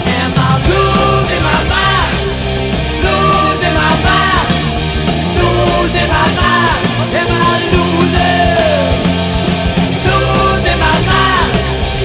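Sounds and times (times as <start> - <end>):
heavy metal band playing: 0.0 - 12.0.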